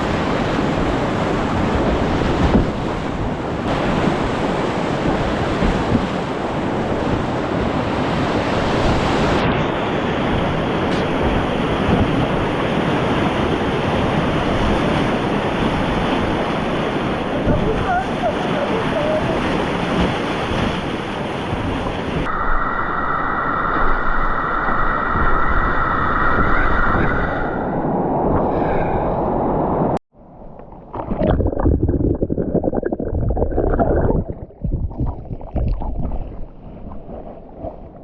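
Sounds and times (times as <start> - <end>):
wind on microphone: 0.0 - 30.0, 30.7 - 38.0.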